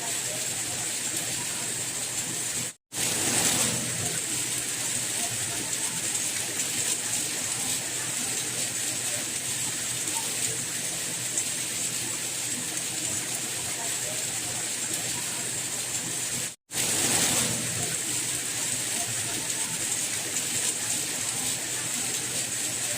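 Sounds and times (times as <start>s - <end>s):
steady rain: 0.0s - 22.9s.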